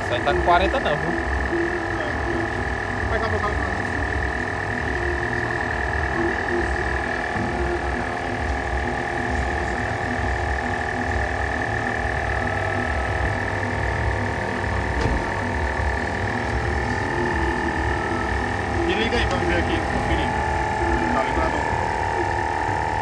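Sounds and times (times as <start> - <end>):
air compressor chugging and whining: 0.0 - 23.0.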